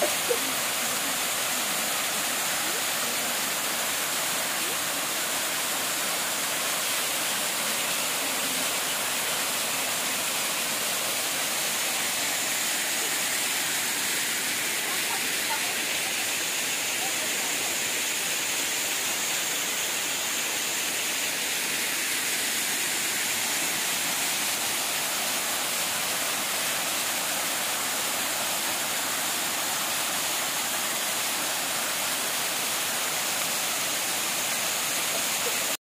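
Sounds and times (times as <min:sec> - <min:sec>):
small waterfall splashing: 0:00.0 - 0:35.8.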